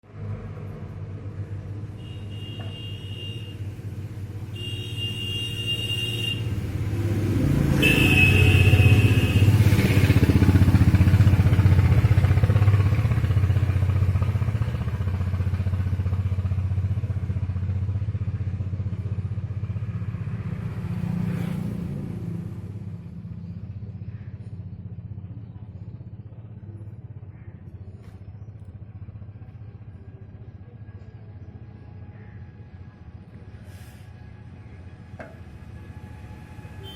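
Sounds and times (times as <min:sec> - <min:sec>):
vehicle engine running: 0:00.1 - 0:36.9.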